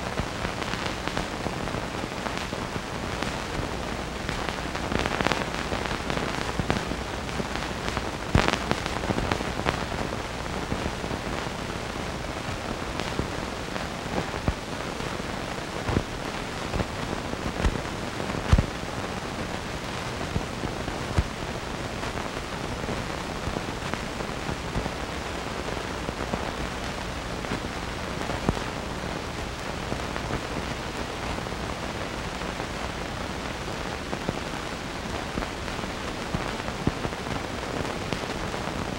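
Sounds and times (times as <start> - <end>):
crackles and pops: 0.0 - 38.9
film soundtrack hiss: 0.0 - 38.9.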